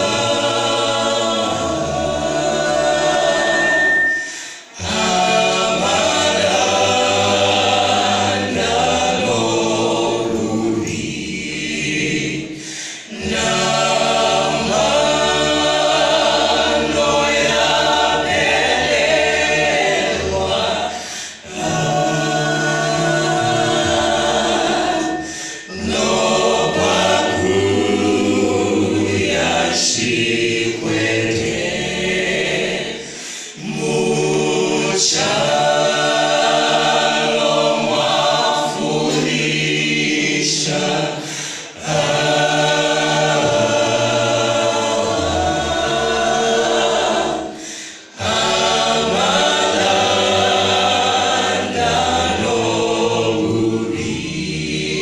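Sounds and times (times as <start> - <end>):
vocal group singing gospel: 0.0 - 55.0.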